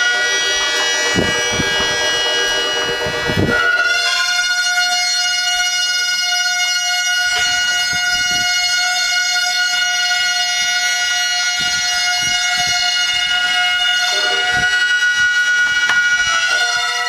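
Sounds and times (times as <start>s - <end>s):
reed wind instrument drone: 0.0s - 17.0s.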